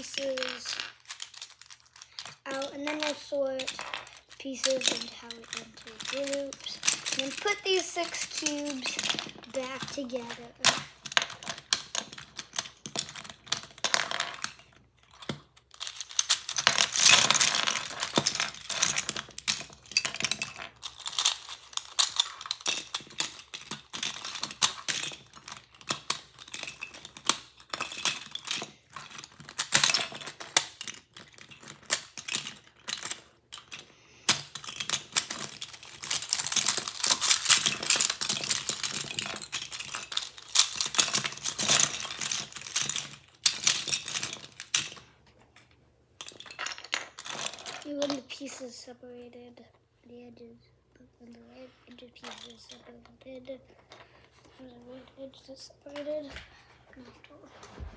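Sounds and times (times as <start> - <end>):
plastic pieces clicking and clattering: 0.0 - 48.5, 51.9 - 53.1.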